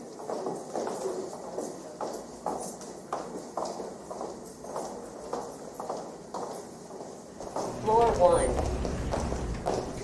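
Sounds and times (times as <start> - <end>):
footsteps on hard floor: 0.0 - 10.0.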